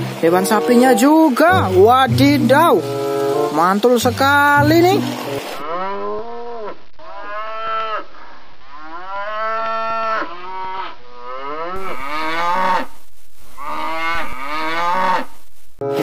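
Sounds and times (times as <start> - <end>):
cows mooing: 0.0 - 3.6, 4.8 - 8.1, 8.7 - 13.0, 13.6 - 15.4.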